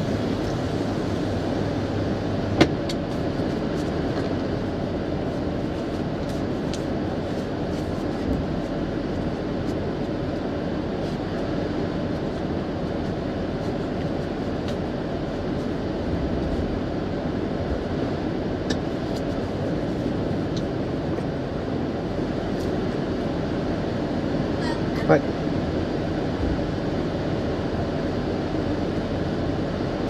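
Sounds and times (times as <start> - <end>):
engine and road rumble in cabin: 0.0 - 30.0.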